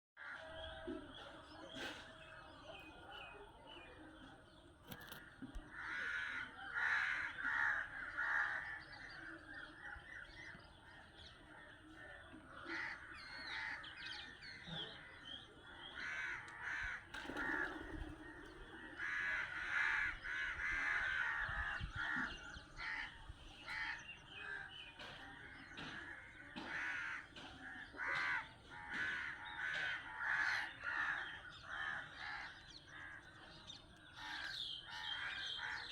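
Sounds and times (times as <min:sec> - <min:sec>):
birds calling: 0:00.2 - 0:35.9.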